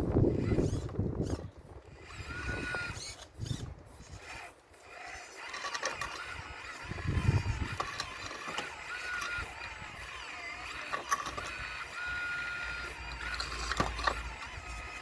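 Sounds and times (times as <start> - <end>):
model excavator motors whining: 0.0 - 15.0.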